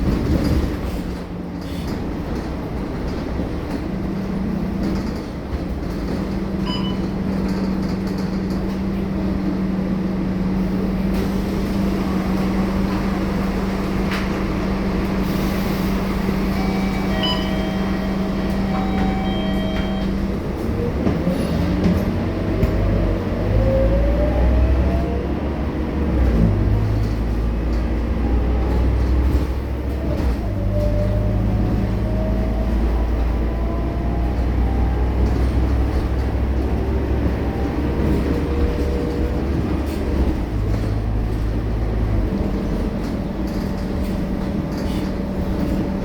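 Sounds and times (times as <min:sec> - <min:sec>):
bus diesel engine rumbling: 0:00.0 - 0:46.0.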